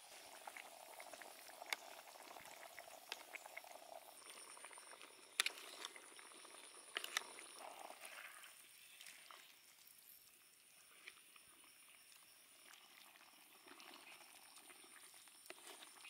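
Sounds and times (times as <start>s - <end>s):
liquid simmering in a wok: 0.0s - 16.0s.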